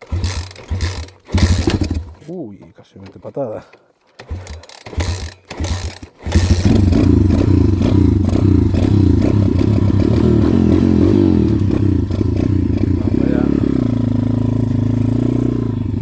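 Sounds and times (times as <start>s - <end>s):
pit bike engine kick-started: 0.0s - 2.3s, 4.1s - 16.0s.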